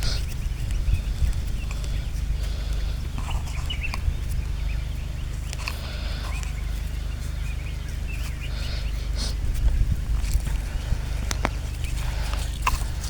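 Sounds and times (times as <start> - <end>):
birds chirping: 0.0 - 13.0
rustling clicks: 0.0 - 13.0
steady low rumble: 0.0 - 13.0.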